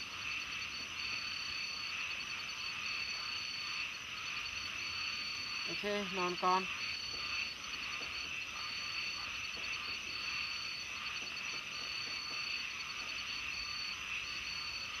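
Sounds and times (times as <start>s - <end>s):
frogs calling: 0.0s - 15.0s
high insect-like trill: 0.2s - 15.0s.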